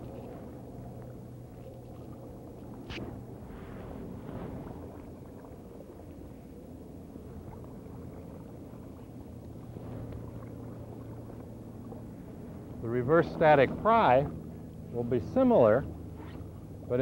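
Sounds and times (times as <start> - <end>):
paddle splashes and drips: 0.0 - 17.0
steady low hum: 0.0 - 17.0.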